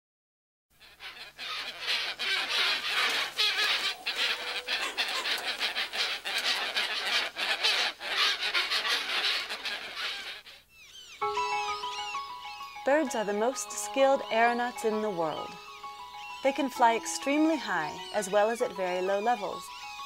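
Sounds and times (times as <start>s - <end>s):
flock of birds calling: 0.8s - 20.0s.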